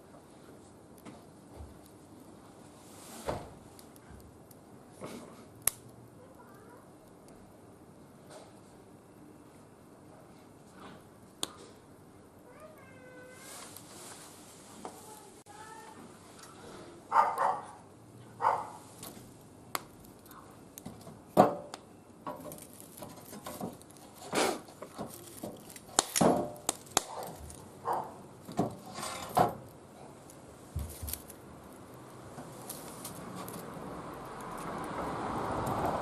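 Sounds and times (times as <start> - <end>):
wood fire crackling: 0.0 - 12.2, 12.9 - 36.0.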